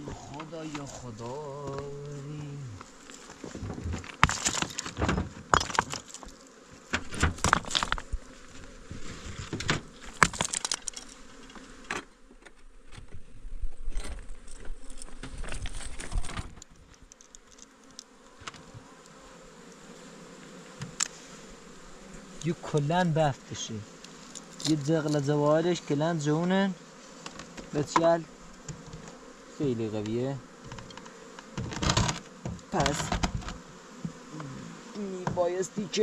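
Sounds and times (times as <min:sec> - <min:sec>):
honeybees buzzing: 0:00.0 - 0:36.0
knocks and scrapes of hive: 0:00.0 - 0:36.0.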